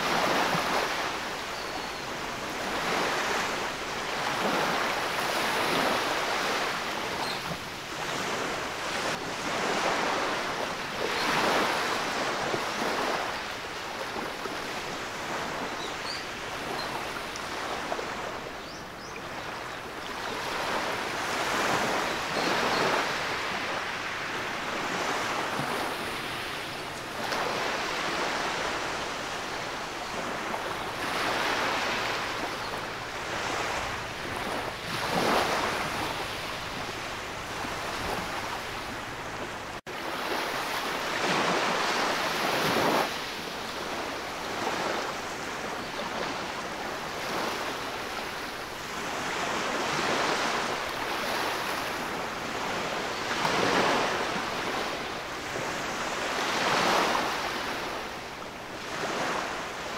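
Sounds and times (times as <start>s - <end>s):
small waves washing on beach: 0.0s - 59.9s.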